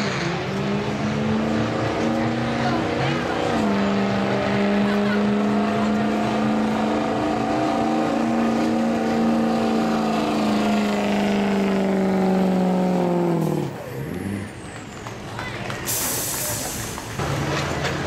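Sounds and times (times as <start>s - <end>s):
diesel truck engine at full throttle: 0.0s - 18.0s.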